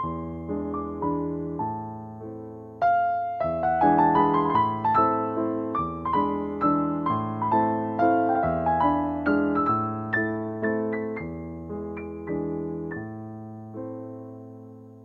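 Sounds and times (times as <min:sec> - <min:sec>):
instrumental keyboard music: 0:00.0 - 0:15.0.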